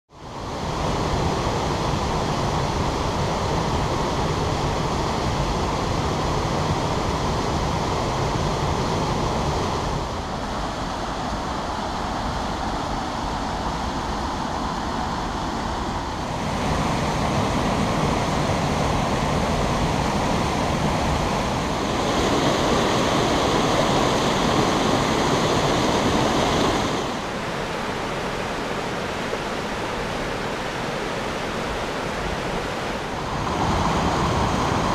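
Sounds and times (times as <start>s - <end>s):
waterfall and stream rushing over rocks: 0.2s - 34.9s.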